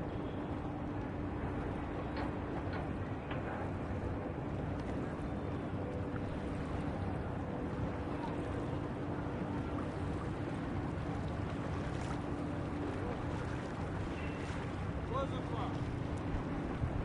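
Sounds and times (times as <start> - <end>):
faint steady hum: 0.0 - 17.0
water rushing: 0.0 - 17.0.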